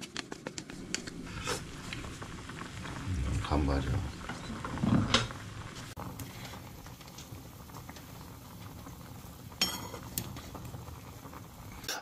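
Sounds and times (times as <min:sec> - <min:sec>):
broth bubbling in a pot: 0:00.0 - 0:12.0.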